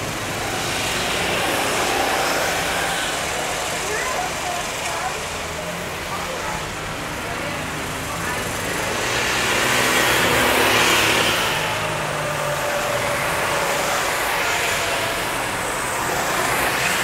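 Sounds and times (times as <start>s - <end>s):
kart engines passing: 0.0s - 17.0s.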